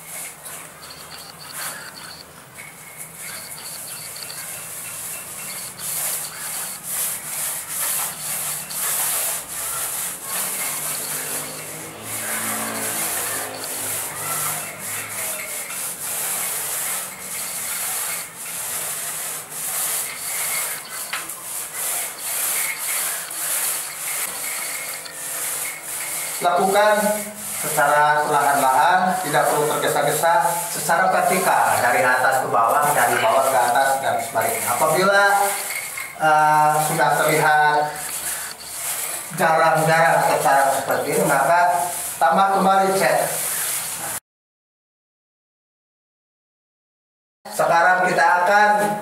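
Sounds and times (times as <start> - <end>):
paint roller swishing on wall: 0.0 - 44.2.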